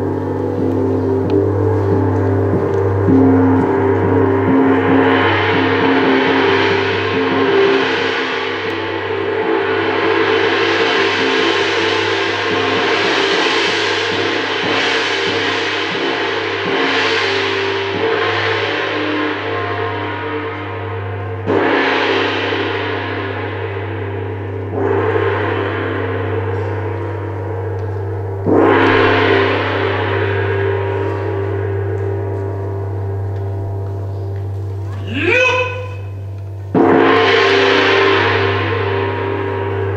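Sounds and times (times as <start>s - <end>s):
large gong ringing: 0.0s - 39.9s.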